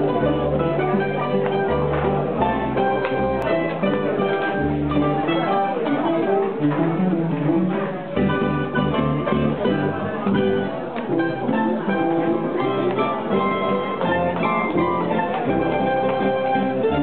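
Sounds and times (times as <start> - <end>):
guitar: 0.0 - 17.0
picked mandolin notes: 0.0 - 17.0
string bass line: 0.0 - 17.0.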